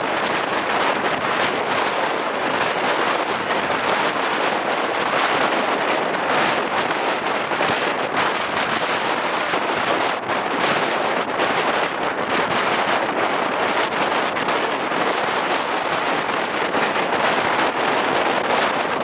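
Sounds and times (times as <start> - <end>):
train running noise: 0.0 - 19.0
wind rushing over microphone: 0.0 - 19.0.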